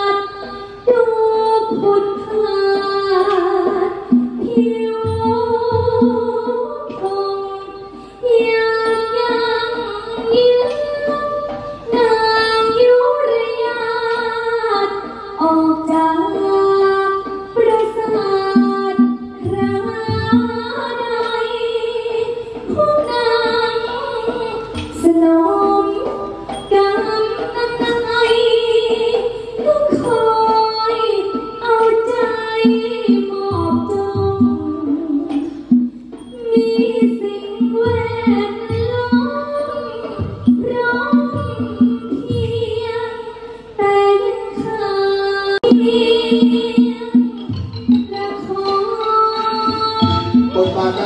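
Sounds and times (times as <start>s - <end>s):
woman singing through microphone: 0.0s - 51.0s.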